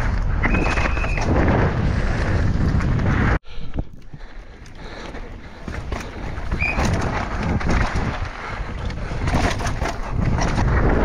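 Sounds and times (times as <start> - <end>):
bike rattling and knocking: 0.0 - 11.0
wind rushing over microphone: 0.0 - 11.0.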